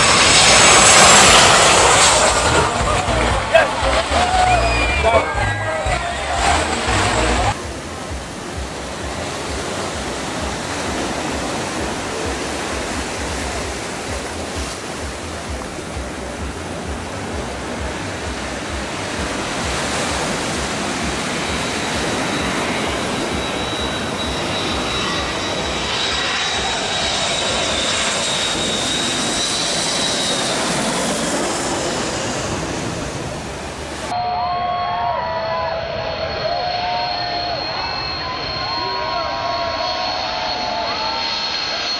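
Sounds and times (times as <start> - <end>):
high jet engine whine: 0.0 - 41.9
jet airliner rush: 0.0 - 41.9.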